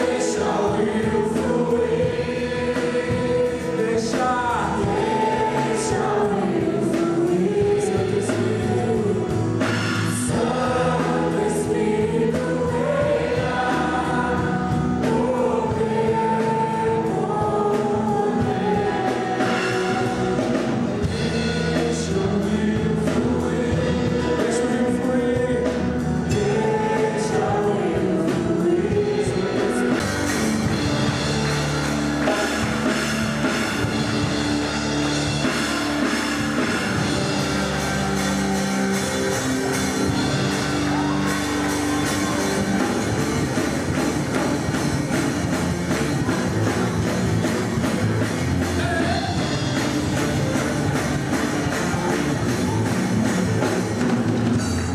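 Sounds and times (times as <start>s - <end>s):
drums: 0.0s - 54.9s
rock band playing: 0.0s - 54.9s.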